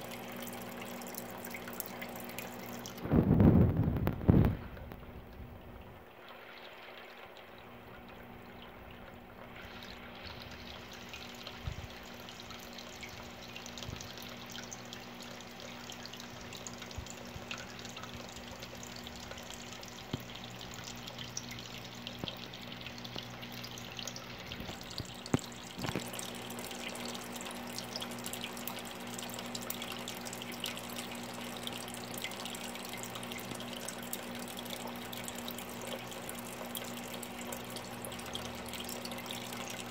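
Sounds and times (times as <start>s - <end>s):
low steady hum: 0.0s - 39.9s
water trickling and dripping: 0.0s - 39.9s.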